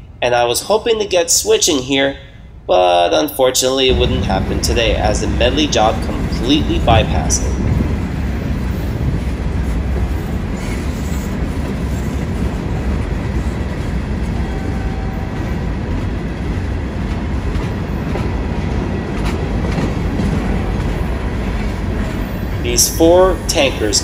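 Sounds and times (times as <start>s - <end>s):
freight train rumbling: 0.0s - 24.0s
train wheels clicking: 3.9s - 24.0s.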